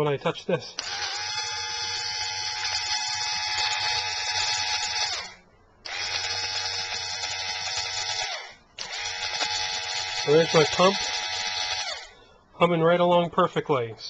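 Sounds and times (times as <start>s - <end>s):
electric fuel pump whining: 0.8s - 12.2s.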